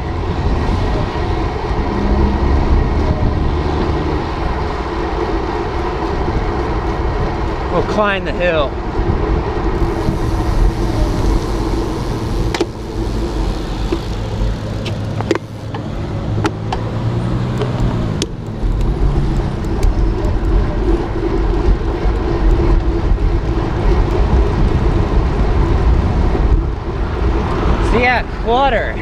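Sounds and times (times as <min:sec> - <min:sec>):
bicycle road noise: 0:00.0 - 0:29.0
cars going by: 0:00.0 - 0:29.0.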